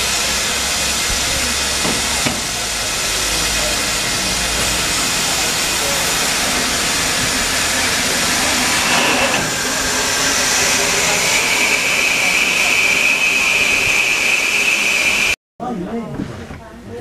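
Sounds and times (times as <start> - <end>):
steam locomotive hissing steam: 0.0 - 15.4.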